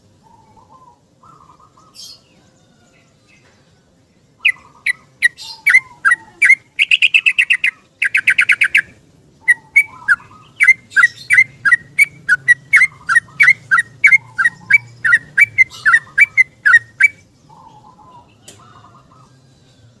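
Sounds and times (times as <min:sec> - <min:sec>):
bird singing rapid trills and chirps: 0:00.0 - 0:20.0.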